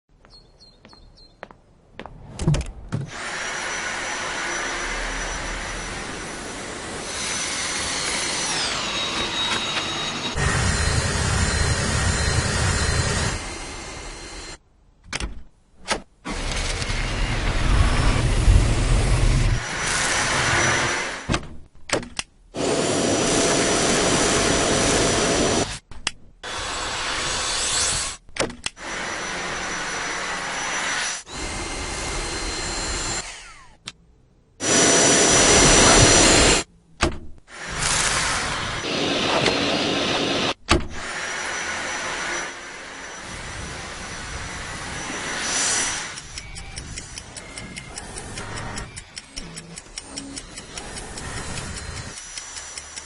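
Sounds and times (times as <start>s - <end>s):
vacuum cleaner whining: 3.1s - 14.6s, 16.3s - 21.3s, 22.6s - 25.8s, 26.4s - 28.2s, 28.8s - 33.7s, 34.6s - 36.7s, 37.6s - 53.0s.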